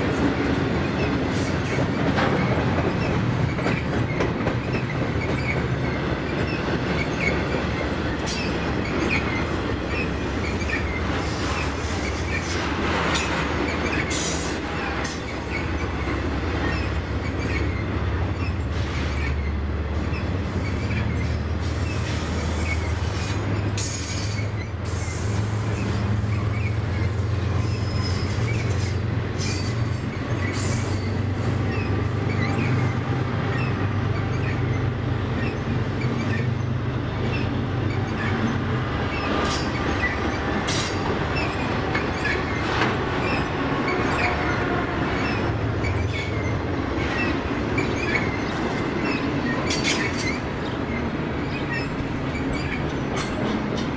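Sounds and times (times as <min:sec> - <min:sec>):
clanks from train cars: 0:00.0 - 0:53.9
train wheels rumbling on rail: 0:00.0 - 0:53.9
wheel squeals: 0:00.0 - 0:53.9.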